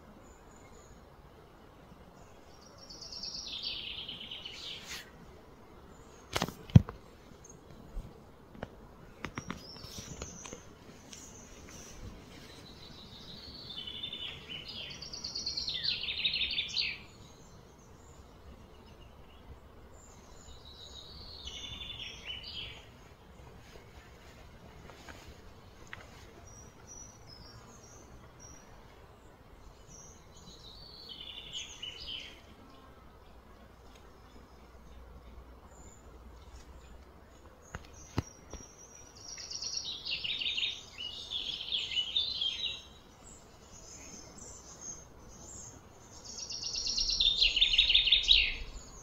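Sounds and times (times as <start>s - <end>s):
steady outdoor hiss: 0.0s - 49.0s.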